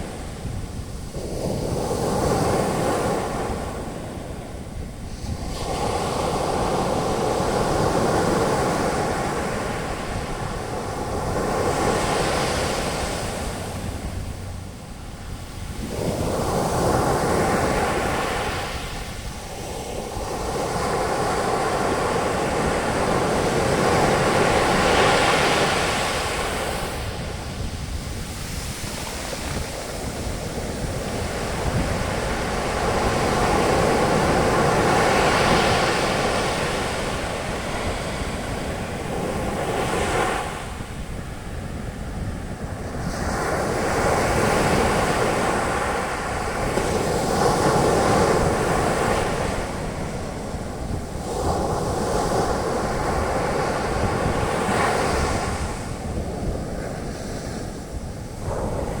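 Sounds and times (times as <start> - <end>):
ocean waves breaking on beach: 0.0 - 59.0
wind on microphone: 0.0 - 59.0.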